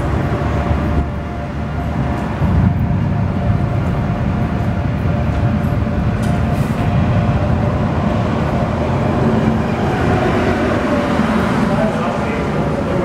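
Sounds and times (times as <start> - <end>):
storm wind and rain roaring: 0.0 - 13.0.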